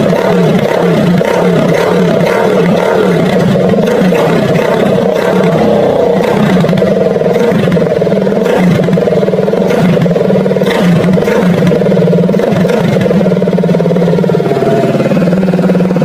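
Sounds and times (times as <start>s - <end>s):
motorcycle engine running loudly: 0.0s - 16.0s.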